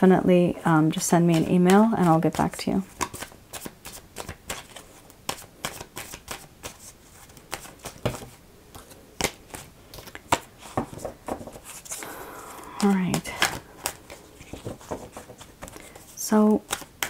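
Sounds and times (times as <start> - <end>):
cards being shuffled: 1.3 - 17.0.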